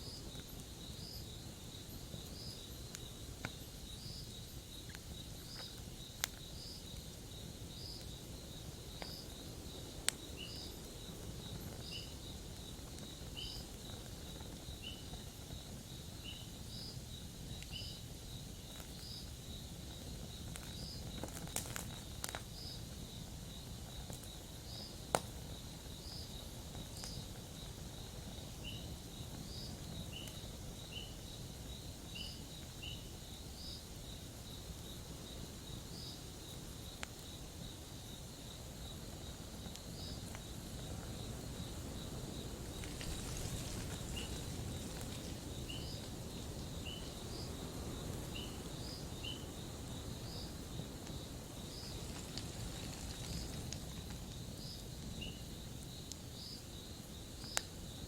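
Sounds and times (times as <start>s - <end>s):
crickets chirping: 0.0s - 58.0s
campfire crackling and popping: 0.1s - 57.9s.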